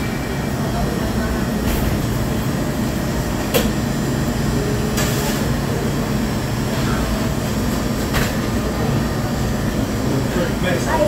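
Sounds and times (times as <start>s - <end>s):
low restaurant rumble: 0.0s - 11.0s.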